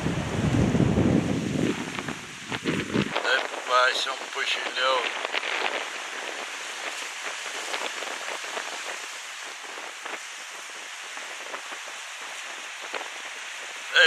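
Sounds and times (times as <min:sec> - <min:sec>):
sea water fizzing among rocks: 0:01.6 - 0:14.0.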